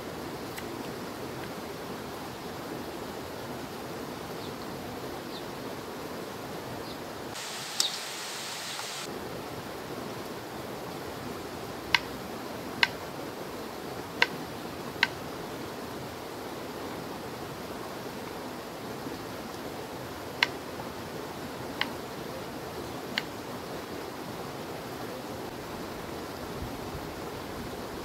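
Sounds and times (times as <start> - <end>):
steady rushing hiss: 0.0 - 28.0.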